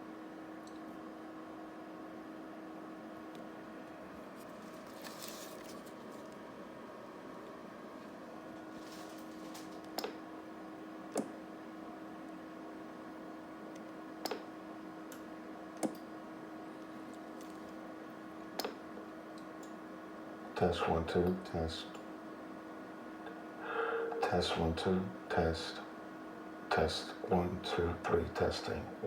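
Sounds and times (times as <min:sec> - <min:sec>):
electrical hum with hiss: 0:00.0 - 0:29.0.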